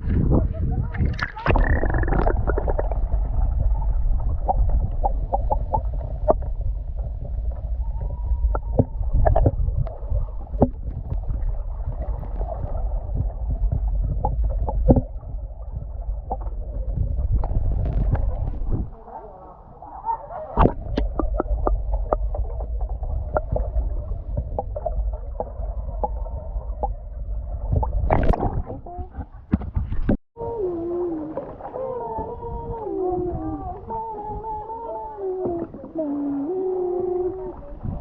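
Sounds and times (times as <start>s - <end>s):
steady low rumble: 0.0s - 36.2s.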